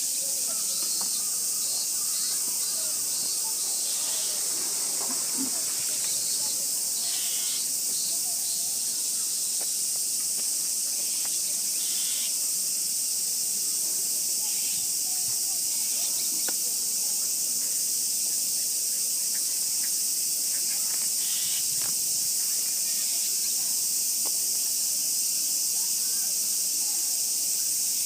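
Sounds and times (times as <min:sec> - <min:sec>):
cicadas droning: 0:00.0 - 0:28.0.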